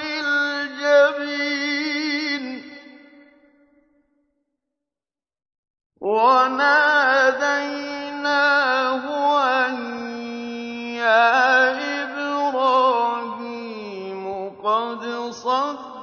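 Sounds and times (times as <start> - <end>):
man chanting recitation: 0.0 - 2.9, 6.0 - 16.0.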